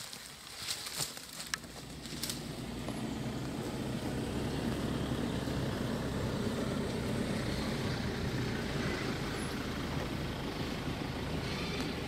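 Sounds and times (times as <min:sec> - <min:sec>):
vehicle engine idling: 0:01.4 - 0:12.0.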